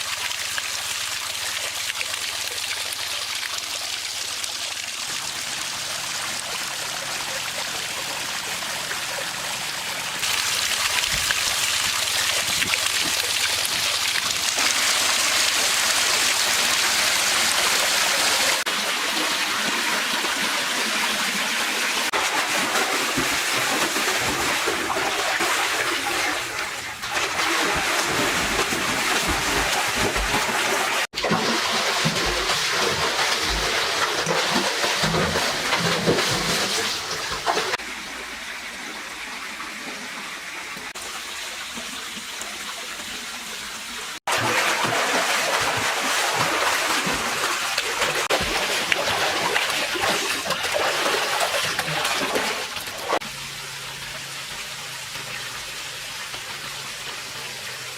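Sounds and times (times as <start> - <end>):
water pouring and splashing: 0.0 - 57.9.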